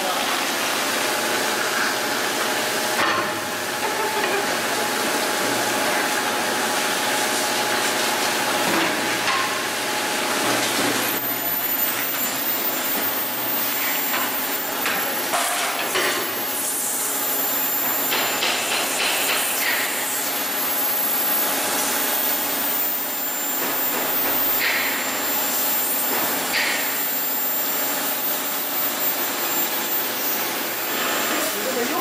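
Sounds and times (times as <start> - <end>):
furnace humming loudly: 0.0 - 32.0
high whine: 2.4 - 32.0.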